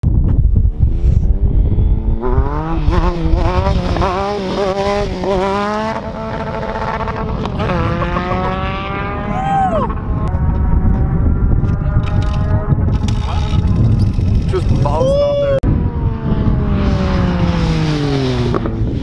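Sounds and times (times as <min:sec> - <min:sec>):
motorcycle engine revving: 0:00.5 - 0:14.9, 0:15.6 - 0:19.0.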